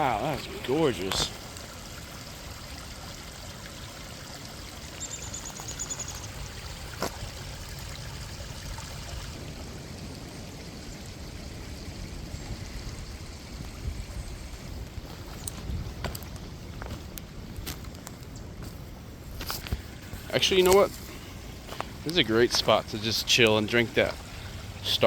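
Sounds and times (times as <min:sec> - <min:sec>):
creek water over rocks: 0:00.0 - 0:25.0.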